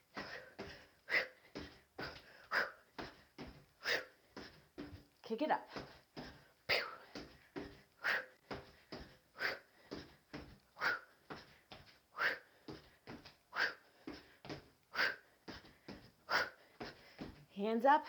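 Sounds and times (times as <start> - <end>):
soft breaths: 0.0 - 17.5.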